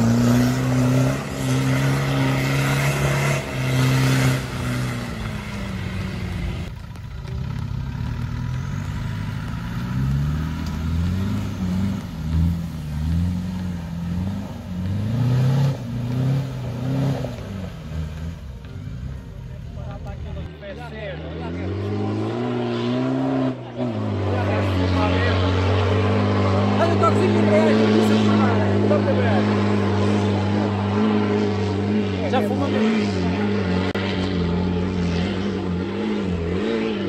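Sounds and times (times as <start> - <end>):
engine at high revs: 0.0 - 6.7, 8.2 - 19.2, 20.4 - 37.0
engine revving up and down: 0.0 - 6.7, 8.2 - 19.2, 20.4 - 37.0.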